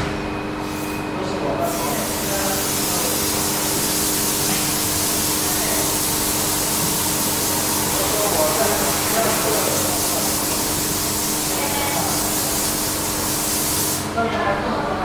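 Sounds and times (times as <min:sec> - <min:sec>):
loud steady hiss: 0:01.6 - 0:14.2.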